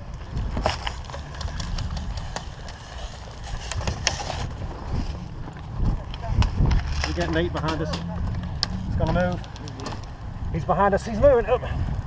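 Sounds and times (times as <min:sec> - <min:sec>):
low handling rumble: 0:00.0 - 0:12.0.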